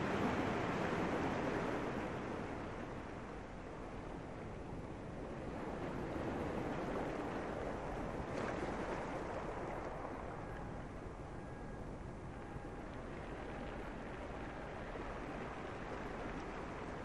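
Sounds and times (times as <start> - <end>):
sea surf washing ashore: 0.0 - 17.0.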